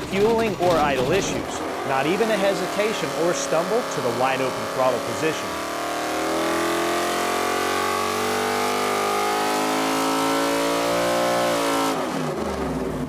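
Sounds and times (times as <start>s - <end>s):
engine revving at full throttle: 0.0s - 13.0s.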